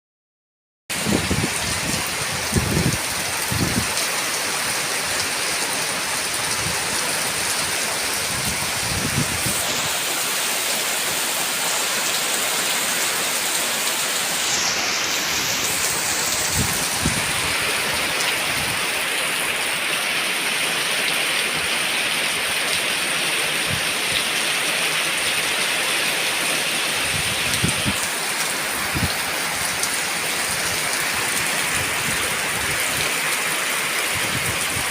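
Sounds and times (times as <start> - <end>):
heavy rain falling: 0.9 - 34.9.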